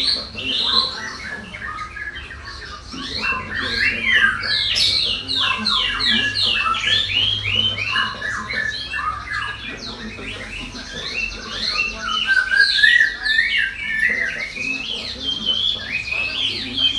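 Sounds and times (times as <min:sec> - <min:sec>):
bird warbling song: 0:00.0 - 0:16.9
songbirds chirping: 0:00.0 - 0:16.9.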